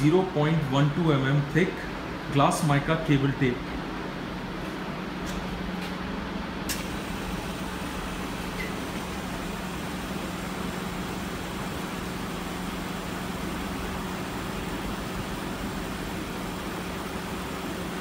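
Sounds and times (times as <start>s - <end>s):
electrical hum: 0.0s - 18.0s
fan-like background noise: 0.0s - 18.0s.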